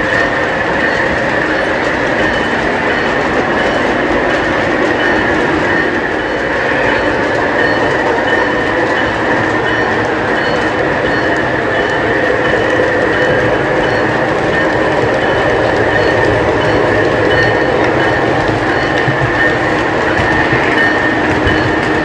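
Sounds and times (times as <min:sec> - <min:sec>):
model train wheels rumbling on rails: 0:00.0 - 0:22.0.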